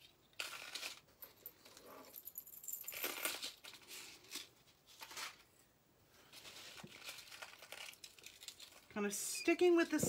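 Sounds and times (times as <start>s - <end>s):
jewelry handling rustles and clicks: 0.0s - 5.5s, 6.3s - 8.9s.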